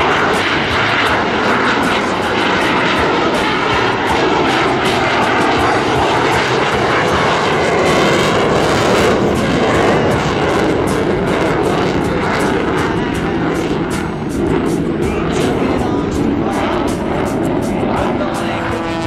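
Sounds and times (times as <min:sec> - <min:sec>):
fighter jet engines roaring: 0:00.0 - 0:19.0.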